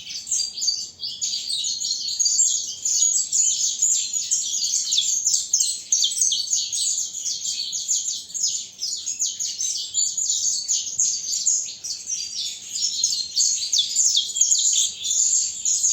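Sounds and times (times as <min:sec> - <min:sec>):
songbird chirping and trilling: 0:00.0 - 0:15.9.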